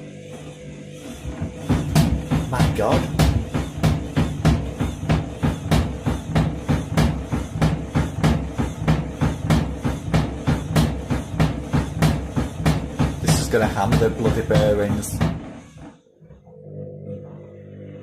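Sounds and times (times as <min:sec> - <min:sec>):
motor hum: 0:00.0 - 0:18.0
washing machine drum knocking: 0:01.3 - 0:15.9.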